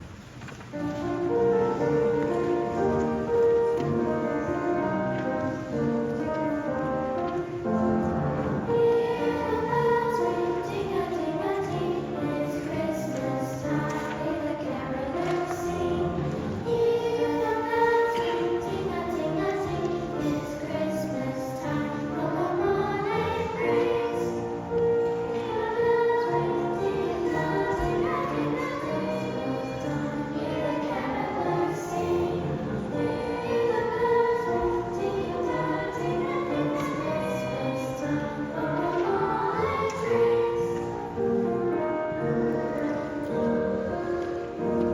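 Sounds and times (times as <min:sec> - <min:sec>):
girls' choir singing: 0:00.7 - 0:44.9.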